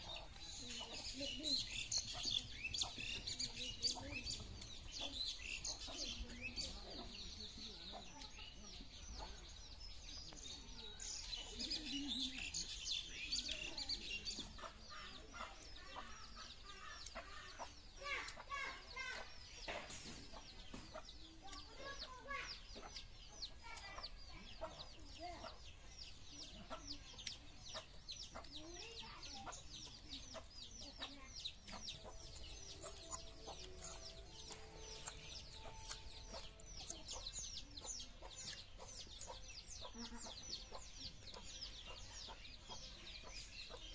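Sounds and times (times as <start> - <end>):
chicks peeping: 0.0 - 43.9.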